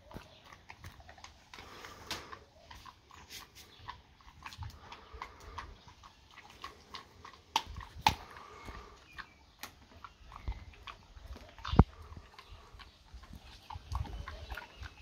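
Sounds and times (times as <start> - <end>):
dog crunching food on tiles: 0.0 - 15.0.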